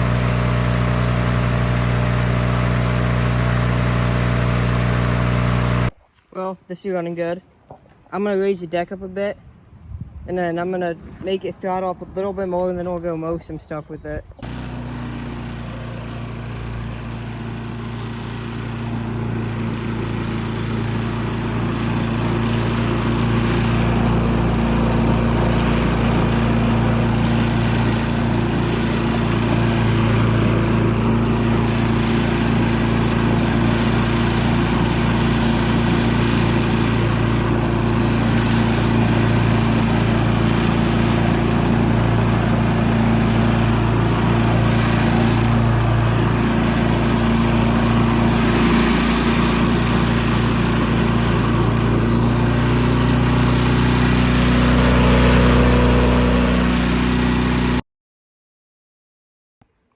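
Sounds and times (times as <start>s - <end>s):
lawn mower engine running: 0.0s - 6.0s, 14.4s - 57.8s.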